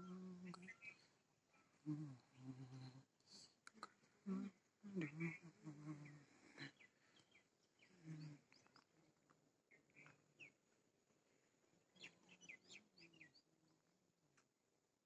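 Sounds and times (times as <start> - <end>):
faint bird chirps: 0.0 - 3.1, 4.3 - 13.9.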